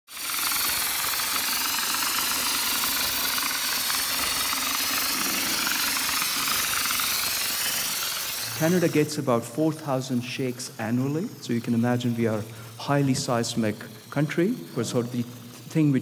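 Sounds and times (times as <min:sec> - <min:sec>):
spray gun hissing: 0:00.1 - 0:16.0.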